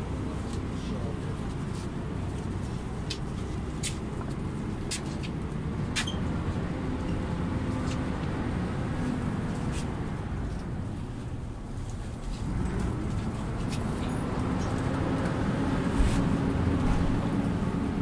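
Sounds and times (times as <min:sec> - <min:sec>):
bus body rattles and clicks: 0:00.0 - 0:18.0
bus engine and road rumble: 0:00.0 - 0:18.0.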